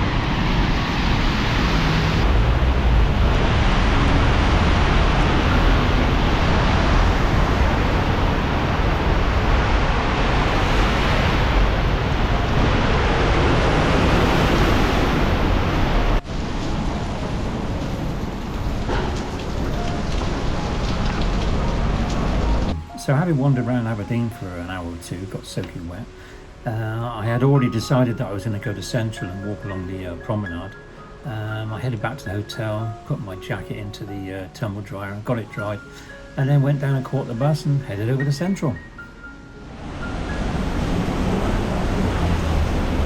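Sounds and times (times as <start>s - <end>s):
torrential rain pouring: 0.0s - 43.0s.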